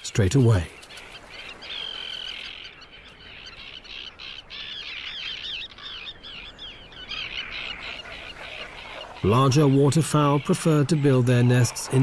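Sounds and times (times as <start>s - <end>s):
terns calling: 0.0s - 12.0s.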